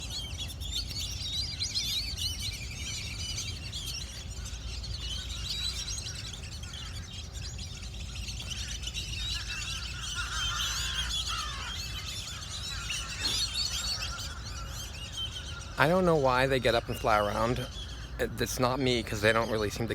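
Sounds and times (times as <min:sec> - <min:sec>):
flock of birds chirping: 0:00.0 - 0:19.9
lower falling bird calls: 0:00.0 - 0:19.9.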